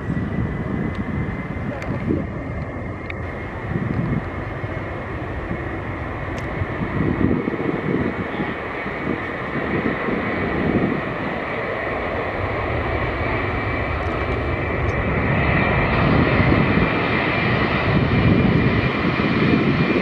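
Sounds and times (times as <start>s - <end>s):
jet engine whine: 0.0s - 20.0s
jet engines at takeoff thrust: 0.0s - 20.0s
pulsing low rumble: 0.0s - 20.0s.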